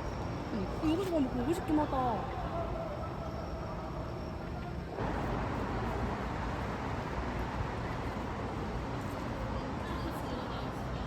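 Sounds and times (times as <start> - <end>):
low rumble background noise: 0.0 - 11.0.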